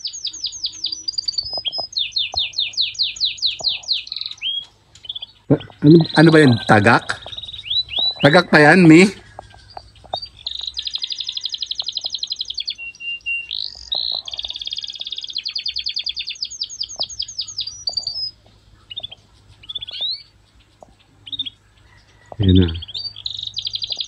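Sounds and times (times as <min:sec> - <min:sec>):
songbird trilling: 0:00.0 - 0:24.0.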